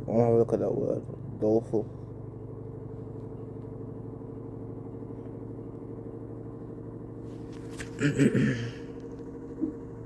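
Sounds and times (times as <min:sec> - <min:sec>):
washing machine motor hum: 0:00.0 - 0:10.0.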